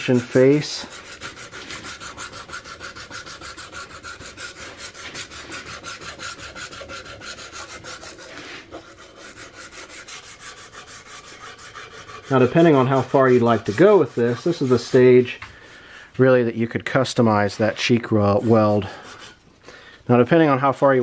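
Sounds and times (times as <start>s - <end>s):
sandpaper rubbing on wood: 0.0s - 15.9s, 17.5s - 19.5s.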